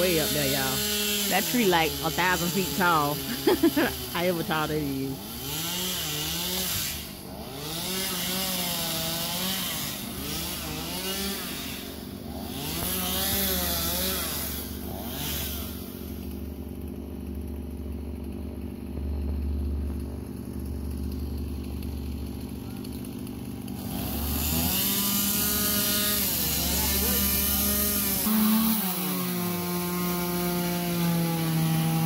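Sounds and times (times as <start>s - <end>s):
chainsaw cutting wood: 0.0s - 32.0s.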